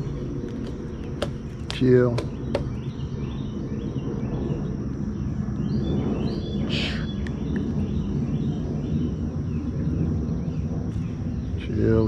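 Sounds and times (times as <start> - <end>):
bird calling: 0.0 - 12.0
low rumbling noise: 0.0 - 12.0.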